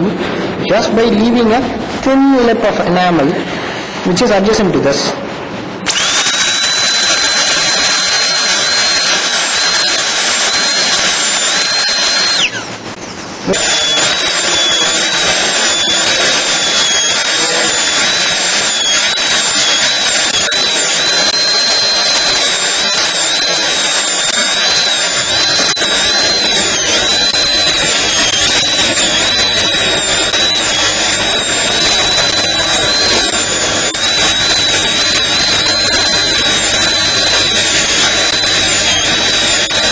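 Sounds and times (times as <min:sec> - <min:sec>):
dental drill whining: 0:05.8 - 0:39.9.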